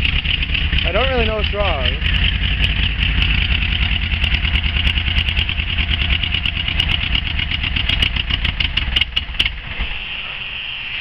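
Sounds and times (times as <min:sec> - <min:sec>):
light engine ticking: 0:00.0 - 0:09.6
engine running with low putter: 0:00.0 - 0:11.0.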